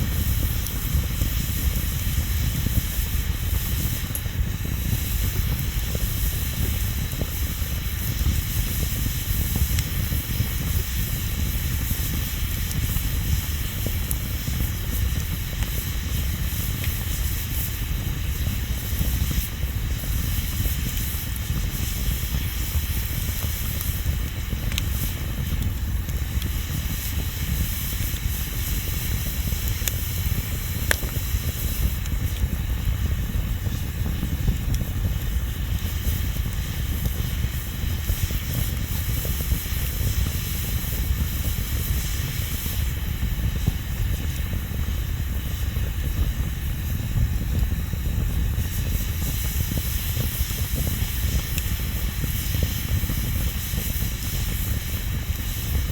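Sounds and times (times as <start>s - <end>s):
bonfire hissing and rumbling: 0.0s - 55.9s
fire crackles: 0.0s - 55.9s.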